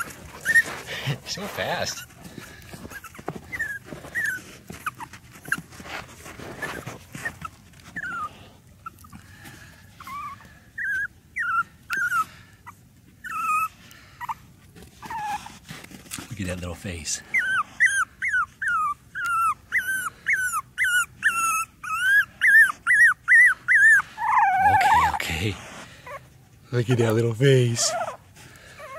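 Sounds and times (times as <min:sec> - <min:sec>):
puppy whimpering: 0:00.0 - 0:16.3, 0:17.0 - 0:28.9.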